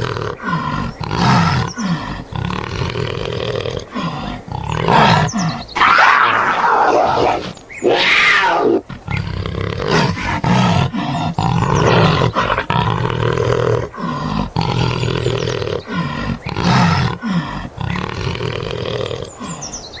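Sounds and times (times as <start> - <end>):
panther roaring and growling: 0.0 - 19.8.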